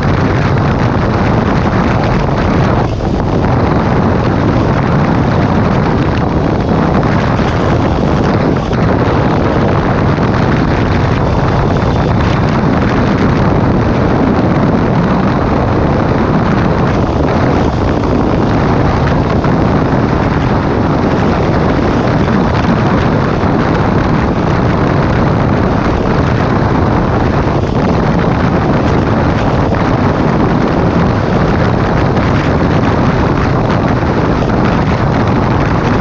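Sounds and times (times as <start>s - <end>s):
motorcycle engine running: 0.0s - 36.0s
wind noise on microphone: 0.0s - 36.0s.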